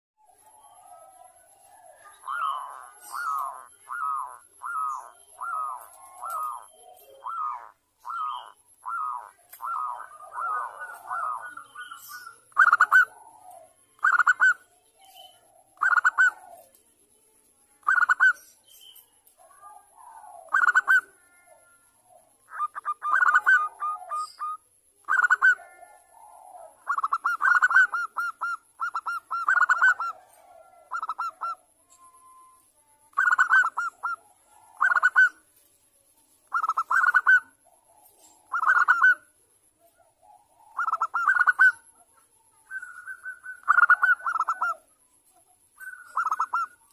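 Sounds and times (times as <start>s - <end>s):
fainter lower dove calls: 0.2s - 16.8s, 17.8s - 35.7s, 36.4s - 46.9s
doves cooing: 0.2s - 16.9s, 19.3s - 35.5s, 36.4s - 46.9s.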